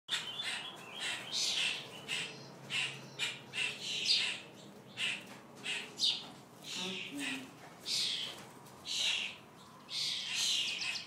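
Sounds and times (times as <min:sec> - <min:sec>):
high scratchy bird calls: 0:00.1 - 0:11.0.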